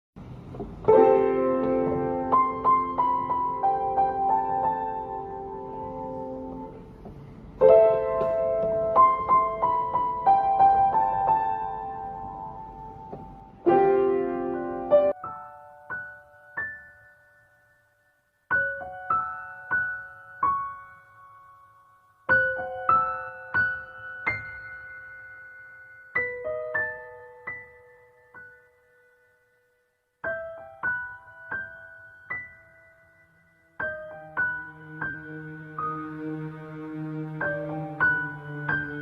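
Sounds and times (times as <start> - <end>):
slow solo piano: 0.2 - 39.0.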